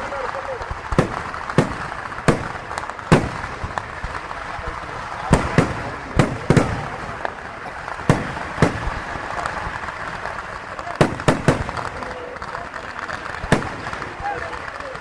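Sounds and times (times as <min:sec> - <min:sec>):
fireworks banging: 0:00.0 - 0:15.0
small firework pops: 0:00.0 - 0:15.0.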